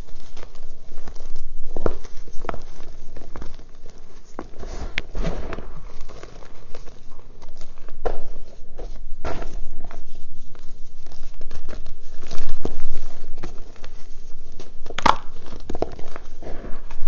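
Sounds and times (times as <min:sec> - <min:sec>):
hand crushing chalk: 0:00.0 - 0:17.0.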